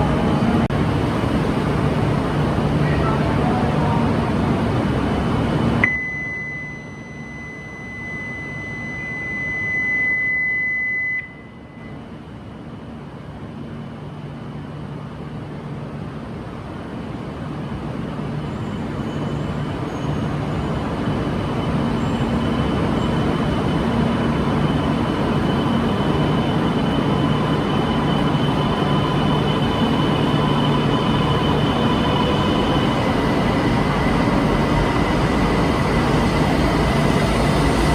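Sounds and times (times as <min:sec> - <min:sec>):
train running hum and whine: 0:00.0 - 0:37.9.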